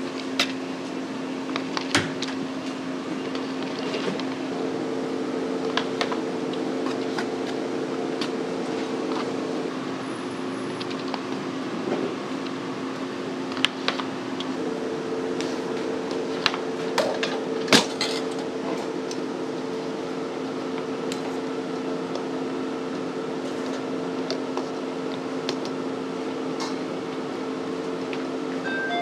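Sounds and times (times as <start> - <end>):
kitchen machinery hum: 0.0 - 29.0.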